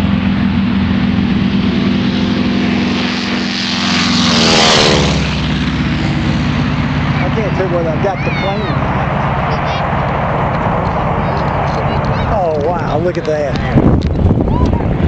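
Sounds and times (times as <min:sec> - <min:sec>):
propeller plane passing low: 0:00.0 - 0:15.0.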